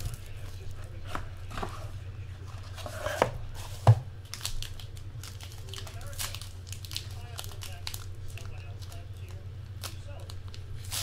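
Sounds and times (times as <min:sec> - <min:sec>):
plastic wrapping rustling: 0:00.0 - 0:11.0.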